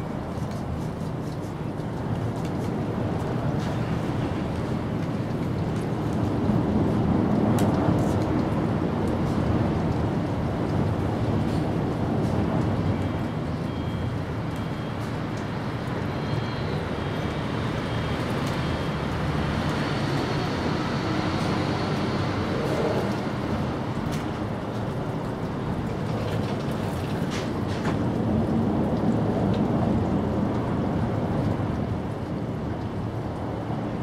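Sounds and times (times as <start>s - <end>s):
low rumbling background noise: 0.0s - 34.0s.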